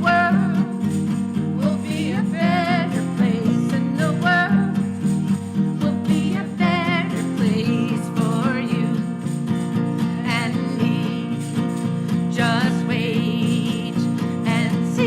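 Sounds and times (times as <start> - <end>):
person singing with vibrato: 0.0 - 15.0
strummed acoustic guitar: 0.0 - 15.0.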